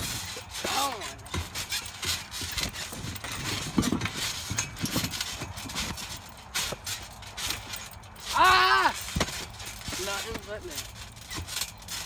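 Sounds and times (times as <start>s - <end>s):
trampoline thumps and rattles: 0.0s - 12.0s.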